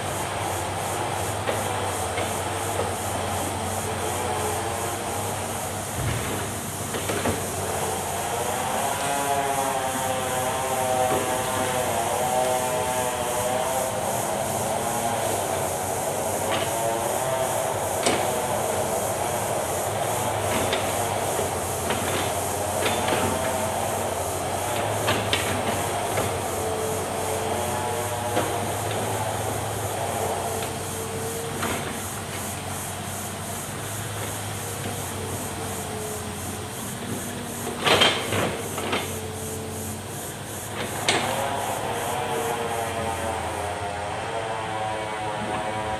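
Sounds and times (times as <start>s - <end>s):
diesel engine under load: 0.0s - 45.9s
hydraulic whine: 0.0s - 45.9s.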